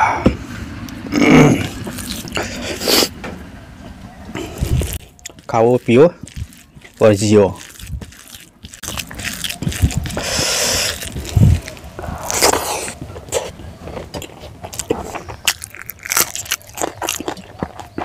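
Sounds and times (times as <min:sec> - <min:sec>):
person chewing and crunching food: 0:00.8 - 0:03.2, 0:04.3 - 0:18.0.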